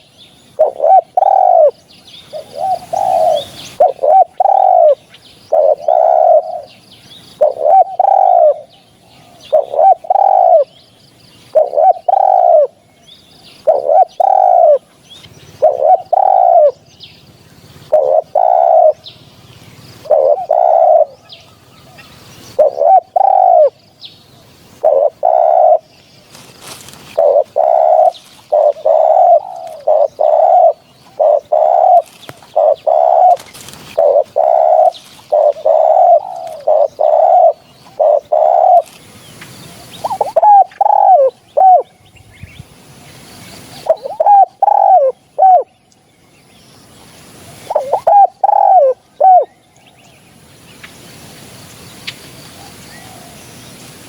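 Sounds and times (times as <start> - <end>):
dove cooing: 0.0 - 10.8, 11.4 - 12.8, 13.6 - 23.8, 24.5 - 42.0, 43.7 - 45.8, 47.4 - 49.6.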